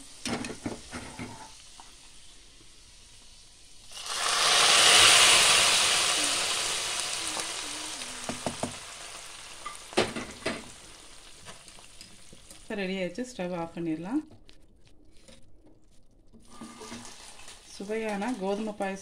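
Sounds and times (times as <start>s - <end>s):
hot oil sizzling in a pot: 0.0s - 12.9s, 16.5s - 19.0s.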